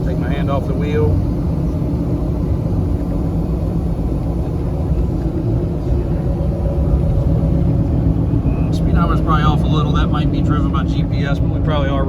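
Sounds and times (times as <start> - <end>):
diesel truck engine rumble: 0.0 - 12.0
faint steady hum: 0.0 - 12.0.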